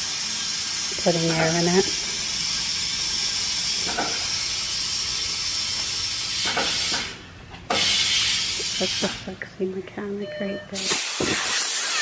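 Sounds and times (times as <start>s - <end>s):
compressed air hissing into tire: 0.0s - 9.3s, 10.8s - 12.0s.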